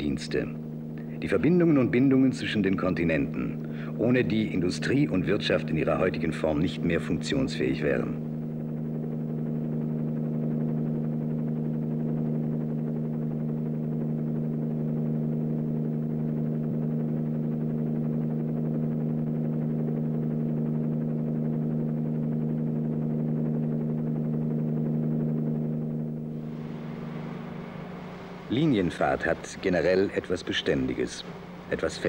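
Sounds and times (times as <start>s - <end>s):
synthesizer drone: 0.0s - 32.0s.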